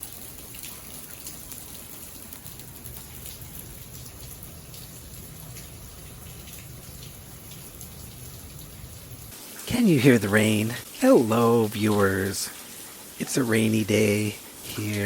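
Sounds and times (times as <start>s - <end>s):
raindrop hits: 0.0s - 12.4s
steady rain falling: 0.0s - 15.0s.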